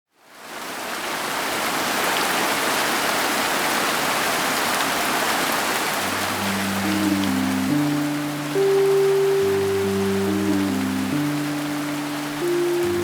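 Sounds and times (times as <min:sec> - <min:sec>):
steady rain falling: 0:00.1 - 0:13.0.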